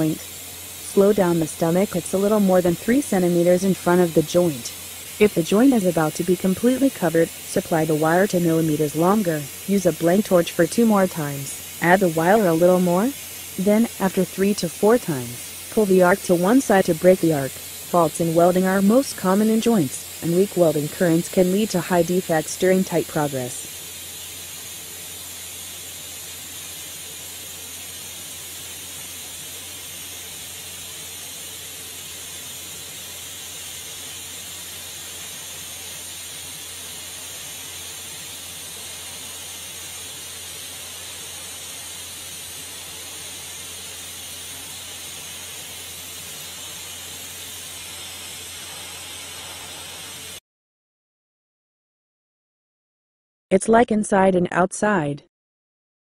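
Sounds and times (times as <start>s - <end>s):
welding arc hissing: 0.0s - 50.4s.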